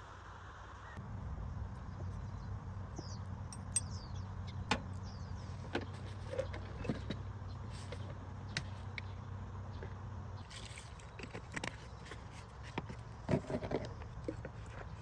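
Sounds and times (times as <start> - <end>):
car engine humming: 1.0 - 15.0.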